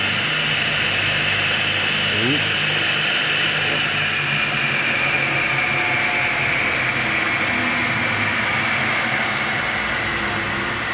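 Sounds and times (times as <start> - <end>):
miter saw running: 0.0 - 10.9.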